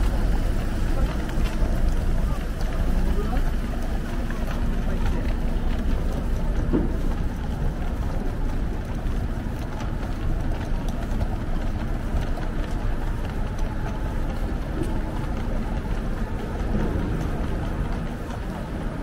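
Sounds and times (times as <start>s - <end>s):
low rumbling street noise: 0.0s - 19.0s.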